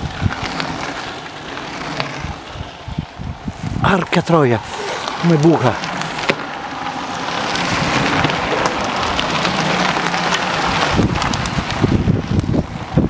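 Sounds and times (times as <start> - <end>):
bicycle tyres on gravel: 0.0 - 13.0
wind buffeting microphone: 0.0 - 13.0.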